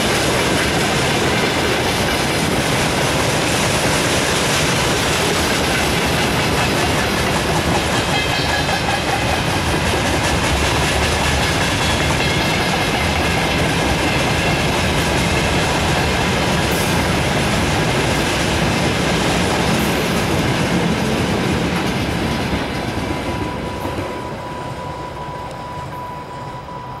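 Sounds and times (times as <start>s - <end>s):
train wheels clattering over rail joints: 0.0s - 24.2s.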